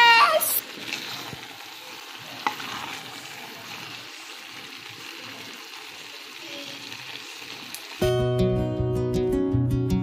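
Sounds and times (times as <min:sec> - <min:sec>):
meat sizzling in a metal pot: 0:00.0 - 0:08.6.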